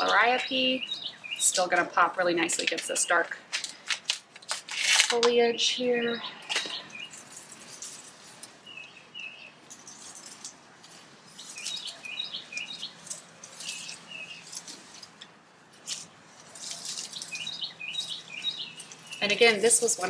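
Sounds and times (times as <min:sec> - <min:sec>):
songbird chirping: 0:00.0 - 0:03.8, 0:05.2 - 0:20.0
hands rustling soil and plants: 0:00.0 - 0:20.0.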